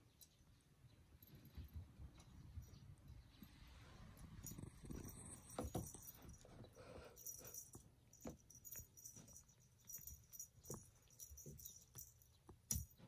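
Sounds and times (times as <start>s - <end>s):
light jingling: 0.0s - 13.0s.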